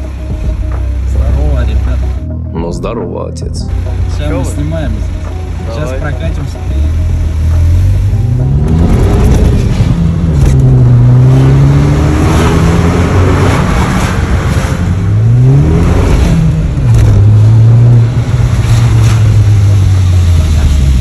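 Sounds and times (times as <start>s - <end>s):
car engine through sports exhaust: 0.0s - 2.4s, 3.6s - 21.0s.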